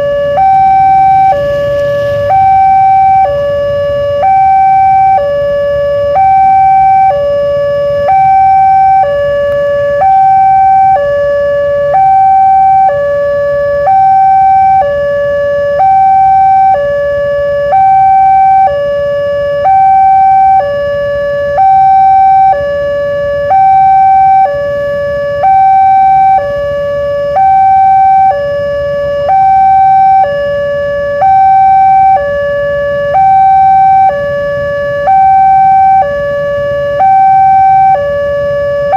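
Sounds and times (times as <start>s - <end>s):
level crossing two-tone siren: 0.0s - 38.9s.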